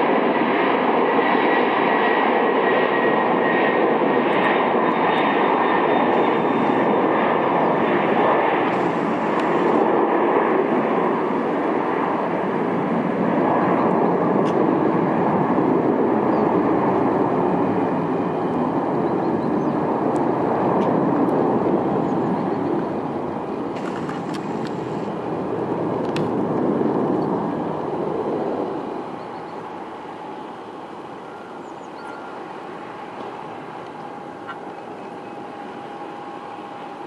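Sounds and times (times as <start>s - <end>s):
jet engines rumbling: 0.0s - 37.0s.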